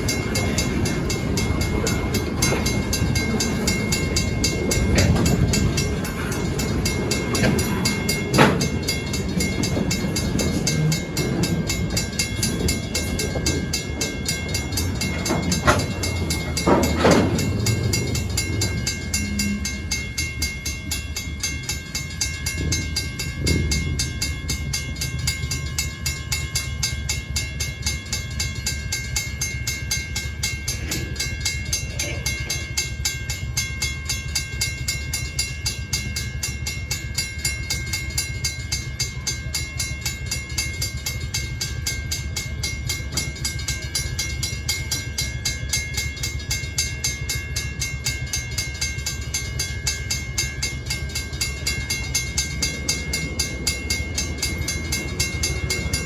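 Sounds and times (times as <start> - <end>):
train knocks: 0.0 - 56.0
train wheels rumbling on rails: 0.0 - 56.0.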